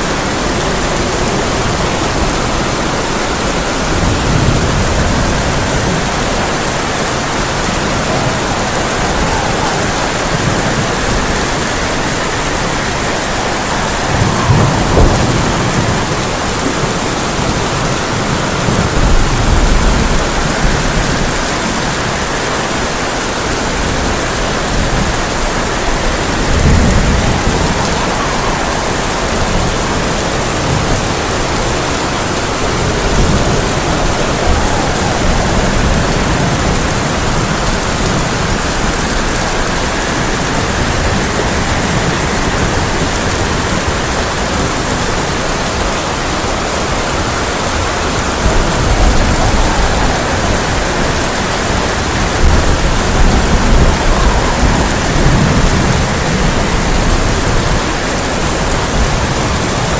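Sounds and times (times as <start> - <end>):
heavy rain on a tin roof: 0.0 - 59.9
thunder rumbling: 0.0 - 59.9.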